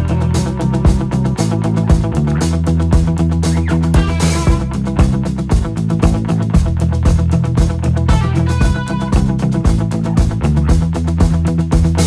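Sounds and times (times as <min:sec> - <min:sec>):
instrumental music with guitar and drums: 0:00.0 - 0:12.0.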